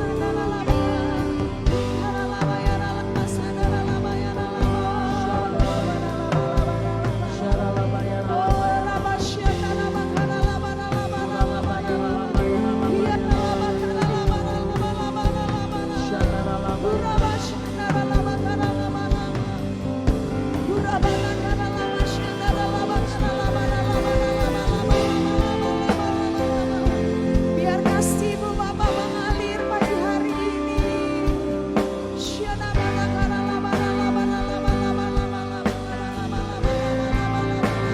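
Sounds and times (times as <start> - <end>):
drum kit beat: 0.0 - 37.9
worship band music with singing: 0.0 - 37.9.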